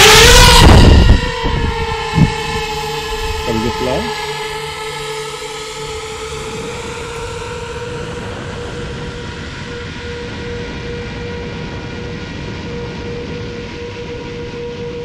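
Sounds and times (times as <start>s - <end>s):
wind noise: 0.0s - 4.1s, 5.9s - 15.0s
drone motors whining: 0.0s - 15.0s.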